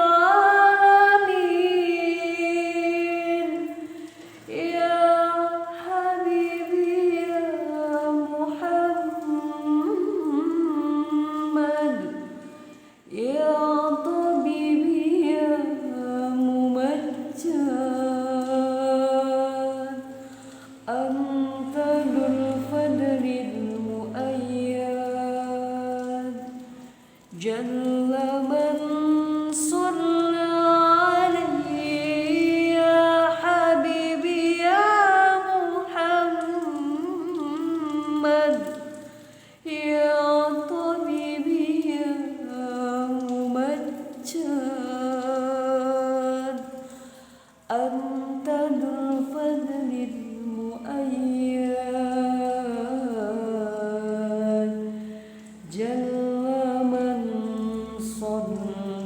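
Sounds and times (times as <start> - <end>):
person singing unaccompanied: 0.0 - 46.8, 47.7 - 59.0.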